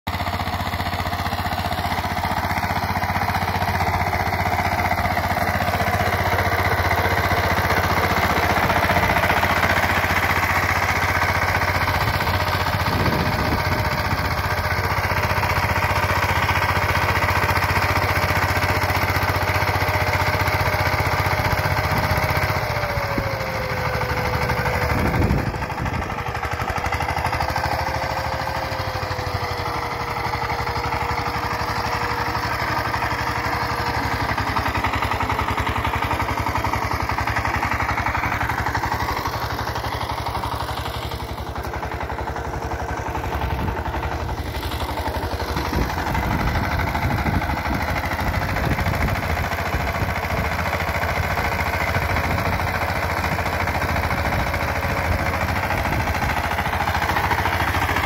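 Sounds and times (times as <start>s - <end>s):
walking tractor engine running: 0.1s - 58.0s.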